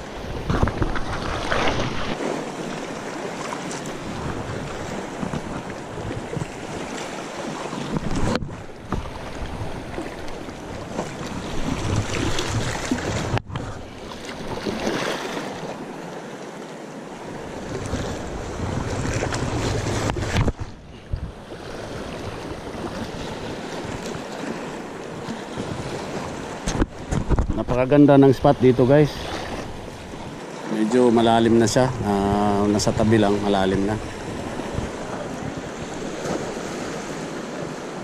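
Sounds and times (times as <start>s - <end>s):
wind rumbling on microphone: 0.0s - 14.9s, 17.2s - 30.4s, 31.2s - 38.0s
small waves lapping: 0.0s - 38.0s.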